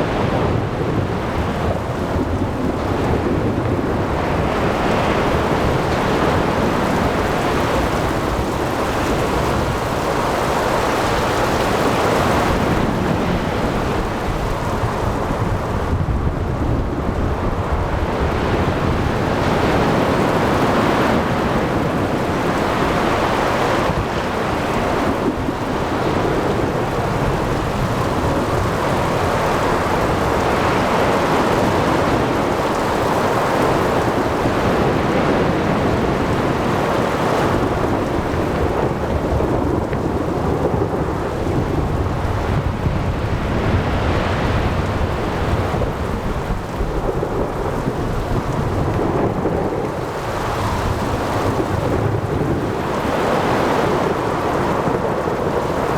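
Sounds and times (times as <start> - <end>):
heavy rain: 0.0 - 55.9
surf: 0.0 - 55.9
wind: 0.0 - 55.9.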